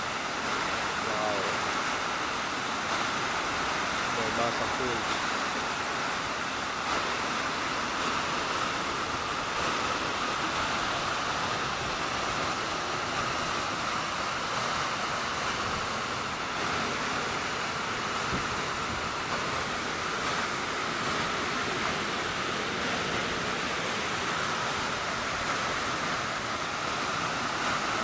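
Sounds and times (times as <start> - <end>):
waterfall pouring into pool: 0.0 - 28.0.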